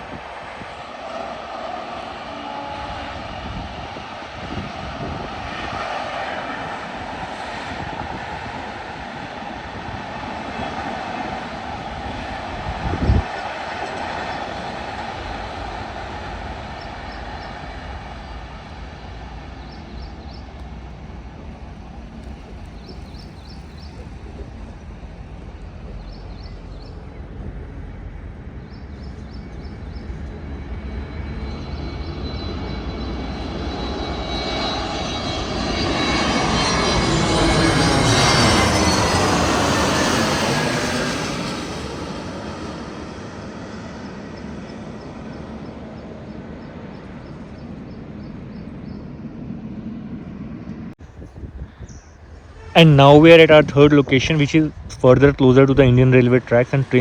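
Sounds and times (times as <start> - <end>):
airliner engine noise: 0.0 - 57.0.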